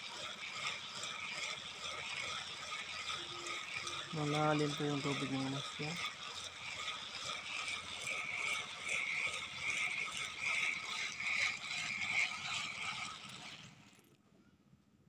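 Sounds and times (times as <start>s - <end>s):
fishing reel whirring and rattling: 0.0s - 14.2s.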